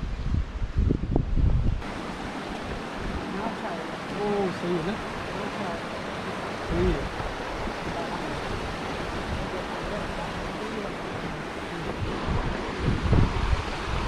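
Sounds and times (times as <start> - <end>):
river water rushing: 1.8 - 14.0.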